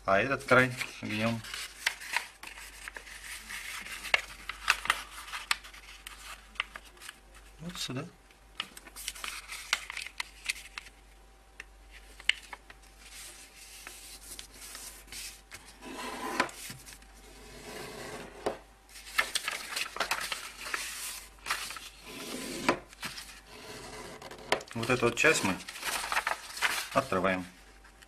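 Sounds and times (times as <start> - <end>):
paper rustling and folding: 0.4 - 7.7, 8.6 - 11.2, 11.8 - 17.2, 18.9 - 28.0.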